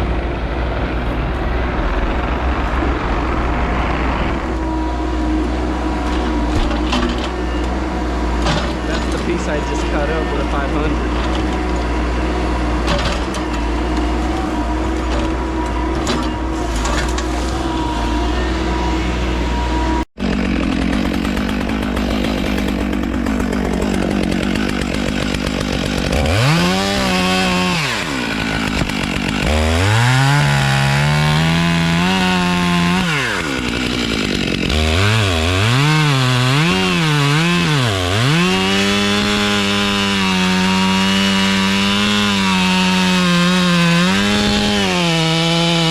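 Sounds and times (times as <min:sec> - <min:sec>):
engine hum: 0:00.0 - 0:45.9
chainsaw revving: 0:01.8 - 0:45.9.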